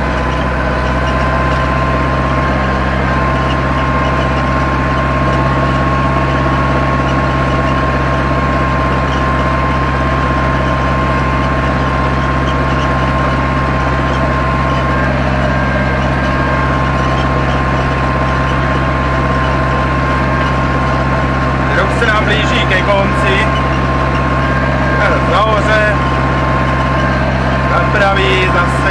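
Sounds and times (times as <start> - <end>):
high whine: 0.0 - 28.9
tractor diesel engine running: 0.0 - 28.9.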